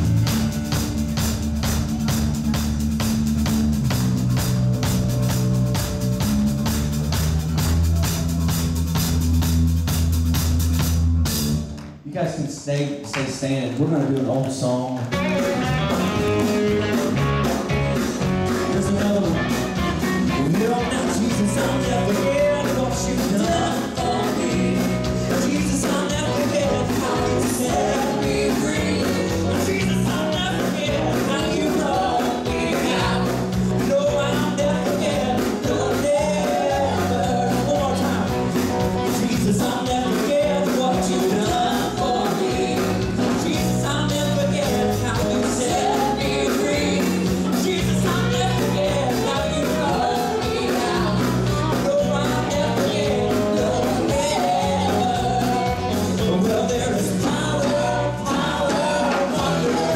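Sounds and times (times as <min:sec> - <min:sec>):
gospel band singing and playing: 0:00.0 - 0:12.8, 0:13.4 - 0:59.9.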